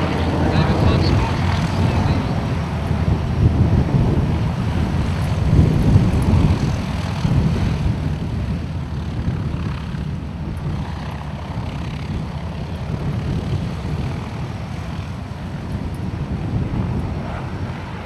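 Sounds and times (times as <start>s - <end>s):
jet aircraft rumbling overhead: 0.0s - 18.0s.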